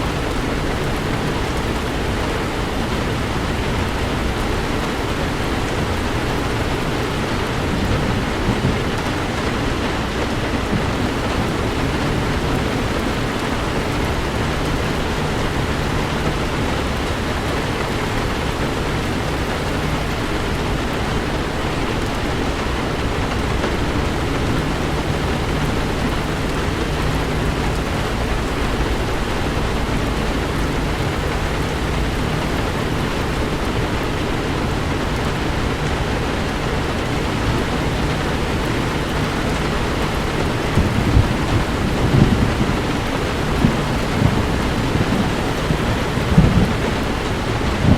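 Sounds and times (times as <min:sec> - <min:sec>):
heavy rain on car: 0:00.0 - 0:47.9
road rumble: 0:00.0 - 0:47.9.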